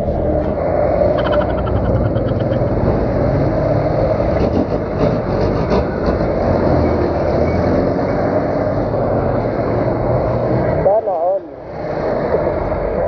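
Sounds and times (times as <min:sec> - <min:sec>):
traffic engines: 0:00.0 - 0:13.0.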